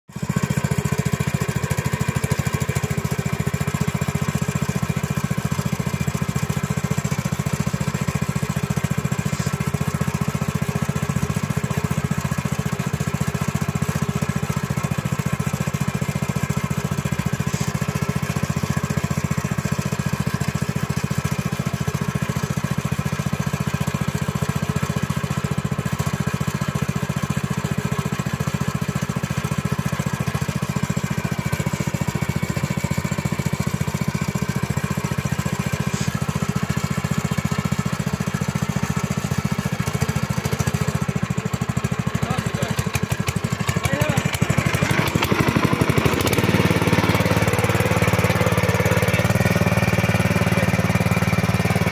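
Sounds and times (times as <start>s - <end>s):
small petrol engine running: 0.1s - 51.9s.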